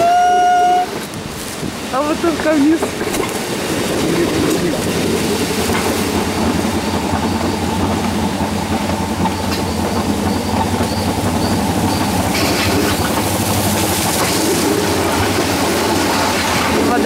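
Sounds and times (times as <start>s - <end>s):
coaster wheels rumbling on rails: 0.0s - 17.0s.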